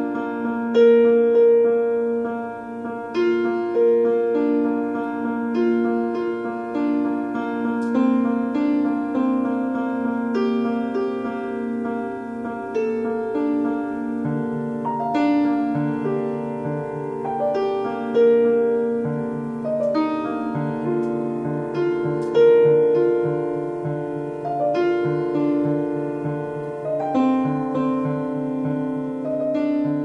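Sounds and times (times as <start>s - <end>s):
slow piano melody: 0.0s - 30.0s.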